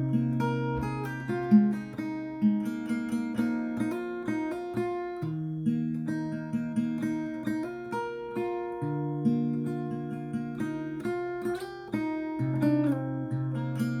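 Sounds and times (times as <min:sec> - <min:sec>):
fingerstyle acoustic guitar: 0:00.0 - 0:14.0.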